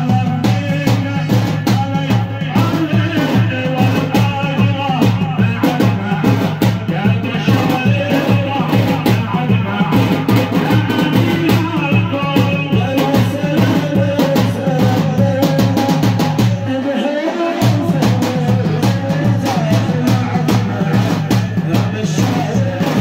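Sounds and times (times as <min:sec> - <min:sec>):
amplified religious vocal music: 0:00.0 - 0:23.0
drum and bass beat: 0:00.0 - 0:23.0.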